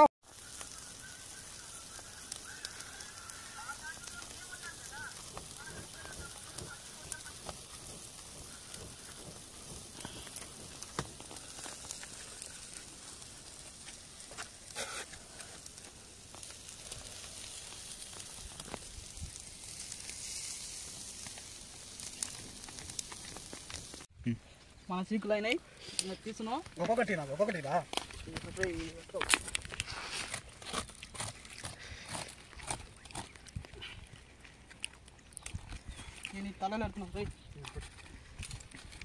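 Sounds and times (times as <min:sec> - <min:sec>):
meat sizzling over charcoal: 0:00.2 - 0:24.1, 0:24.9 - 0:39.0
small crackles and pops: 0:00.2 - 0:39.0.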